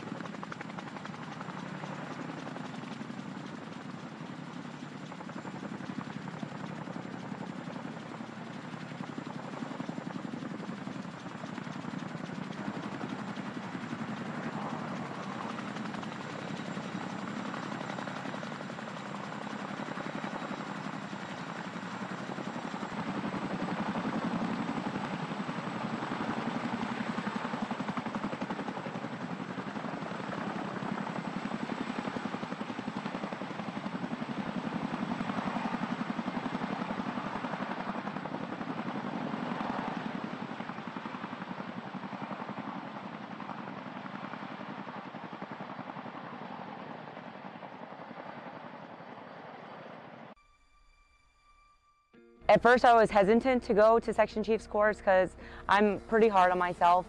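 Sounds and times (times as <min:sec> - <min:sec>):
helicopter rotor beat: 0:00.0 - 0:50.4, 0:52.5 - 0:57.0.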